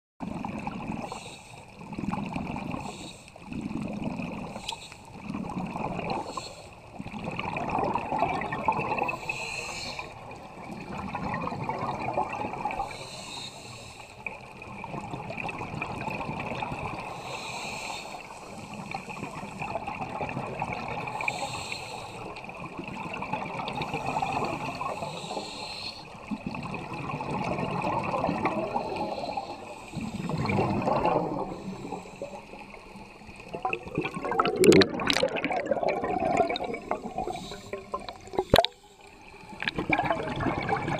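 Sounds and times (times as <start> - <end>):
regulator bubbles gurgling: 0.2 - 1.2, 1.8 - 13.0, 14.3 - 17.3, 18.6 - 21.6, 22.2 - 25.4, 26.1 - 40.9.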